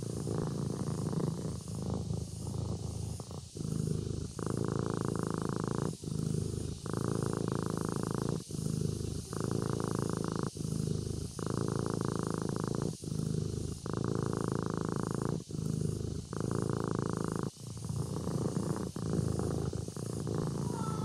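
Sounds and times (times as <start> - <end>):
kitten purring: 0.0 - 21.0.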